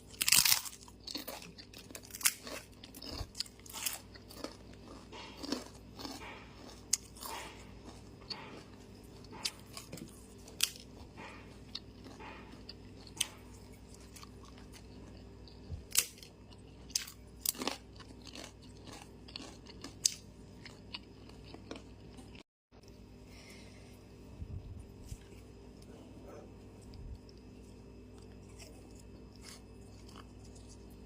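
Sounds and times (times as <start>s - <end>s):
person chewing and crunching: 0.0s - 22.4s, 24.8s - 31.0s.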